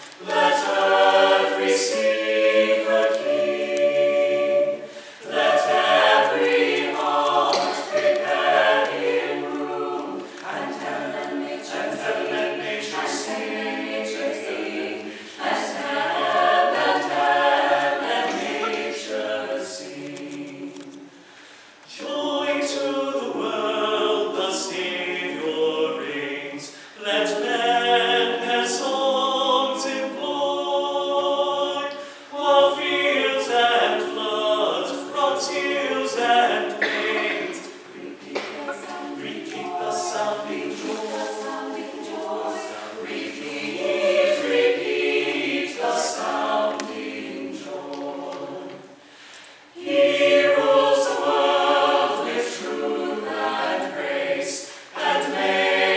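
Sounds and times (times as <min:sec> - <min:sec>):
mixed choir singing a cappella: 0:00.0 - 0:21.2, 0:21.9 - 0:55.9.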